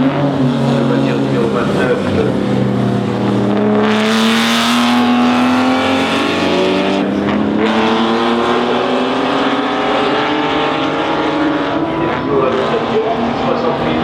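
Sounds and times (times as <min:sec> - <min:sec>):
racing car engine accelerating: 0:00.0 - 0:14.0.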